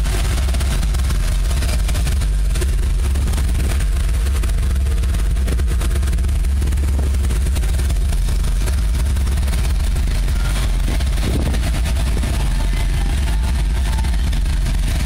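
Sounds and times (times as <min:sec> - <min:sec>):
pickup truck engine rumbling: 0:00.0 - 0:15.0.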